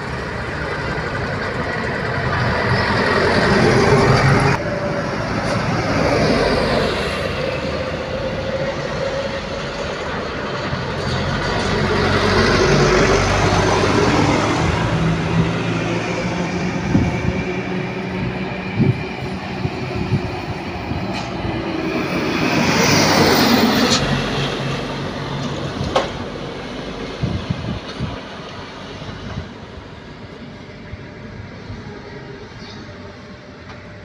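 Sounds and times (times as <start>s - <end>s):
trucks driving past: 0.0s - 34.0s.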